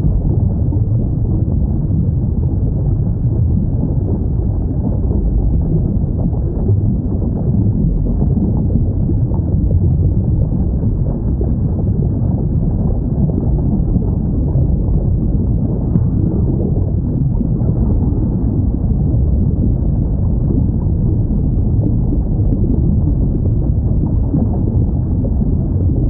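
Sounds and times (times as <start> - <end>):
low underwater rumble: 0.0 - 26.0.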